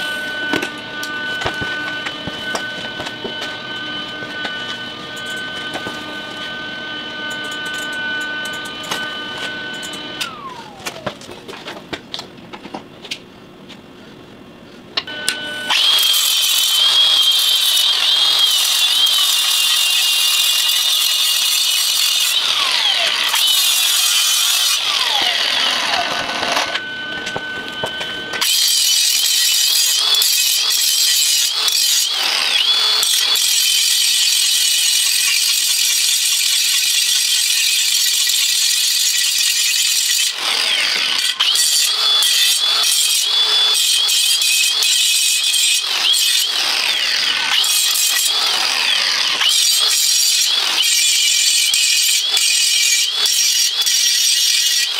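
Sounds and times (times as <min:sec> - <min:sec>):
angle grinder cutting metal: 0:00.0 - 0:11.2, 0:15.1 - 0:54.9.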